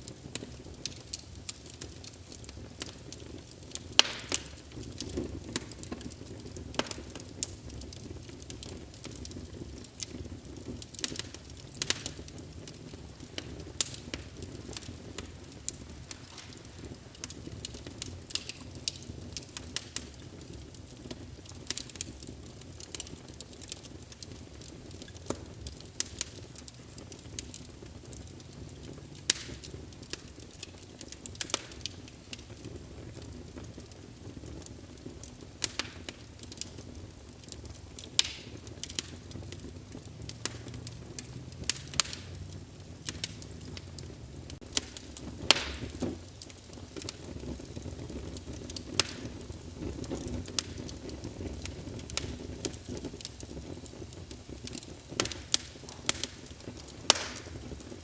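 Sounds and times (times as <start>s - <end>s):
low rumble of burning: 0.0s - 58.0s
sharp pops of burning wood: 0.0s - 58.0s
wood fire crackling: 0.0s - 58.0s.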